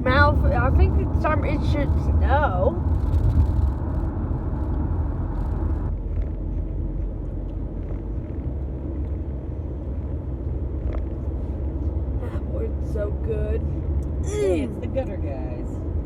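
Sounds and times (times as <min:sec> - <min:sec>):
car cabin low rumble: 0:00.0 - 0:16.0.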